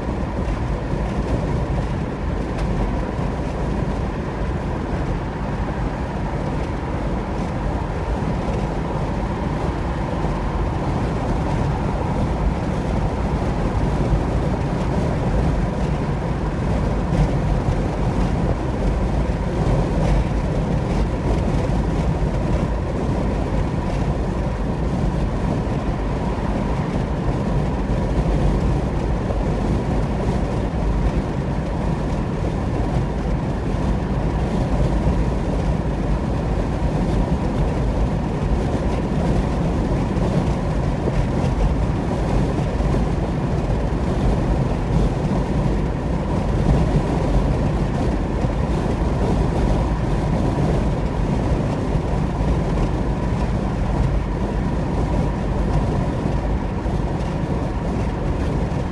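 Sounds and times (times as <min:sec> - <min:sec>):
car road and tyre noise: 0:00.0 - 0:58.9.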